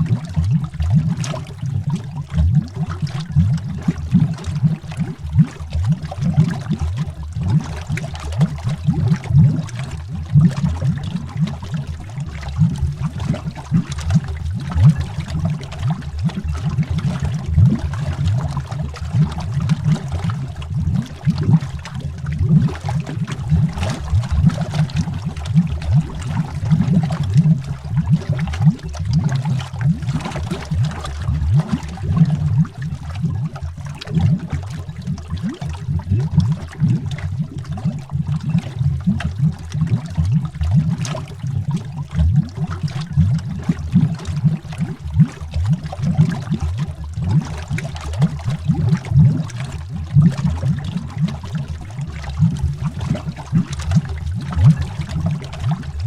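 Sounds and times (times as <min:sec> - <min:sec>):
underwater bubbling: 0:00.0 - 0:56.0.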